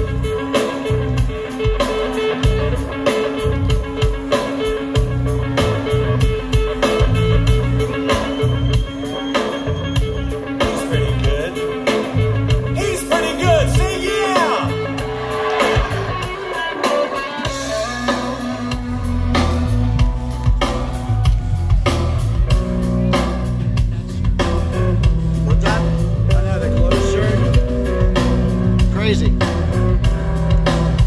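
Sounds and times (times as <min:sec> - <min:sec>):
bass guitar: 0:00.0 - 0:31.0
drum kit beat: 0:00.0 - 0:31.0
electric guitars: 0:00.0 - 0:31.0.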